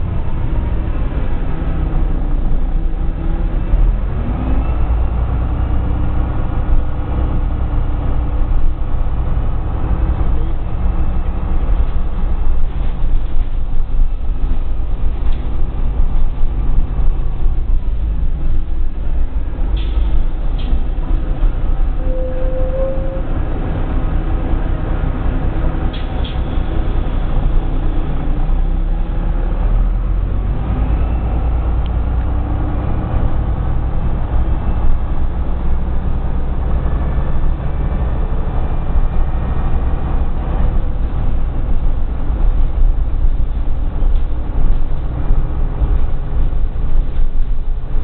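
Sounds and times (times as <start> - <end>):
bus engine running: 0.0 - 48.0.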